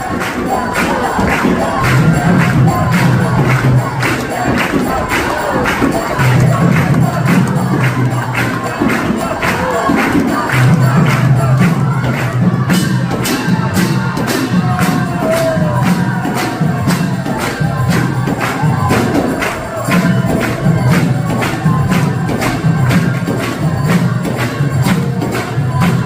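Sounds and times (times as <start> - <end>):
drum playing steady rhythm: 0.0 - 26.0.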